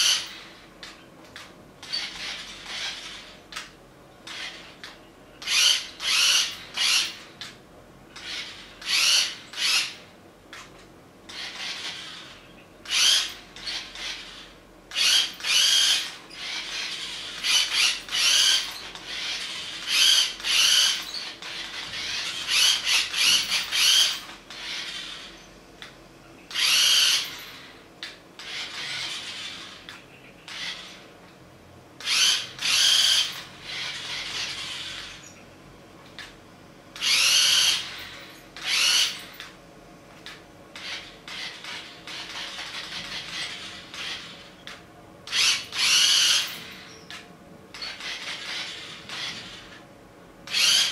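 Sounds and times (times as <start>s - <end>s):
toy vehicle motor whirring: 0.0s - 10.0s, 11.3s - 31.1s, 32.0s - 35.4s, 37.0s - 39.6s, 40.2s - 49.8s, 50.4s - 50.9s.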